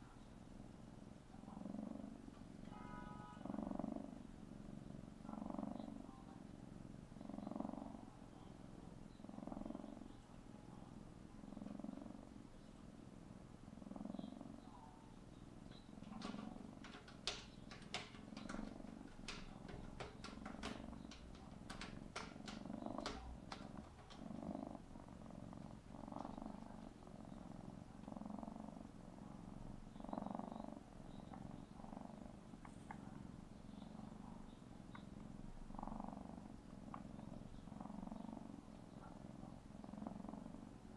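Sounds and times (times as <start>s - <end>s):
kitten purring: 0.0s - 40.9s.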